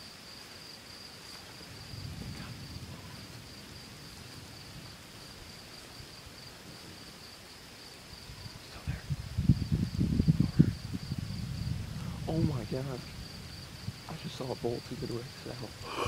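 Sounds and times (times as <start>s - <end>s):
high insect chorus: 0.0s - 16.0s
distant thunder rumble: 1.6s - 7.2s, 8.1s - 16.0s.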